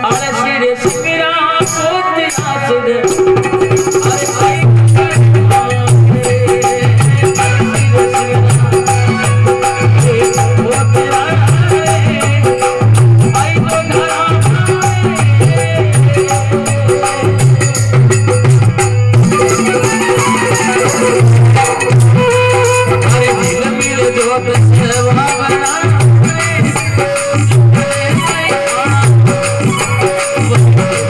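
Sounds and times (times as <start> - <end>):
hand drum beat: 0.0 - 31.0
jingling percussion: 0.0 - 31.0
instrumental melody: 3.1 - 31.0.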